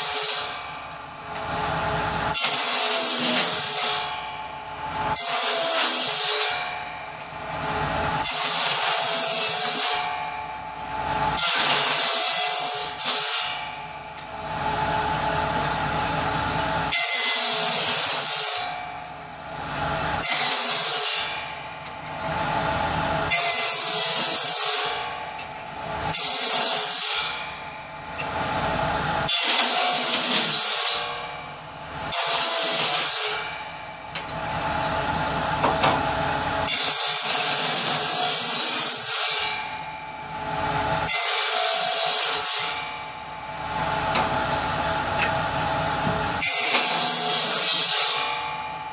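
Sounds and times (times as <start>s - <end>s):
power saw cutting wood: 0.0s - 48.9s.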